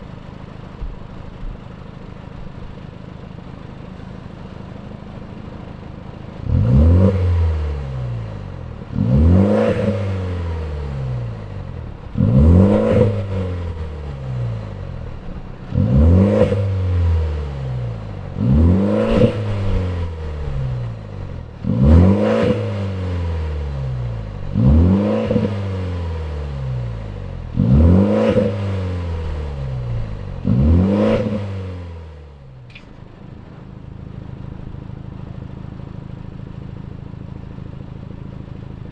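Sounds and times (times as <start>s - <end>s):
car engine idling: 0.0s - 38.9s
car engine revving: 0.0s - 38.9s.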